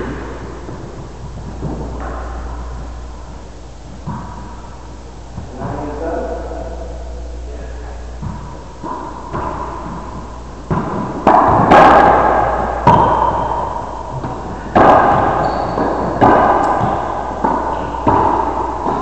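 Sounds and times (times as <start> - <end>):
racquetball hits echoing: 0.0 - 19.0.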